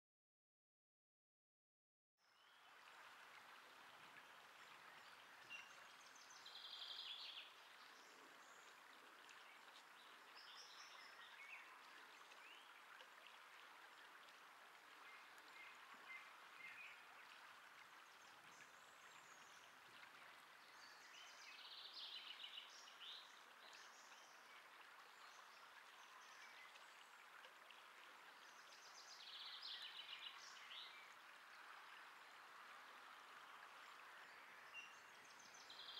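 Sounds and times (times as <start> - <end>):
songbird song: 2.2 - 35.9.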